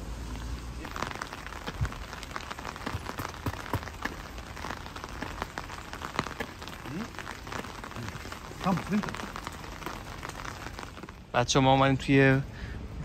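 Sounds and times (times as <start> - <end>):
rain drops tapping on umbrella: 0.3 - 11.5.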